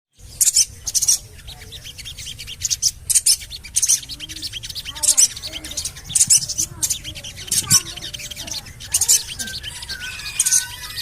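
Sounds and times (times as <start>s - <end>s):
high-pitched bird chirps: 0.2s - 11.0s.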